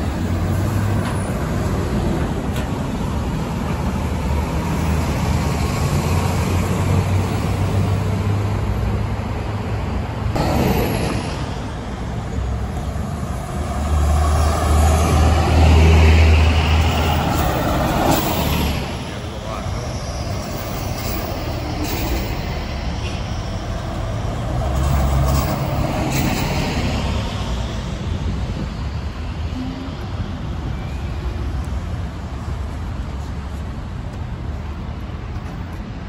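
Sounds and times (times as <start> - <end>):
bus accelerating with rising whine: 0.0 - 36.0
bus engines droning: 0.0 - 36.0.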